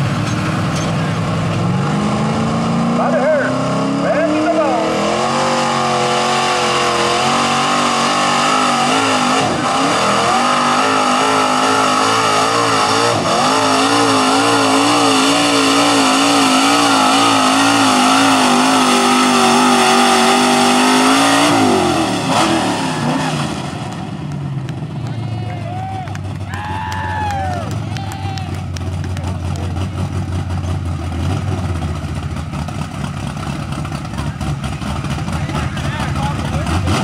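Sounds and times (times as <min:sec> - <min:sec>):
truck engine revving under load: 0:00.0 - 0:26.6, 0:27.4 - 0:37.0.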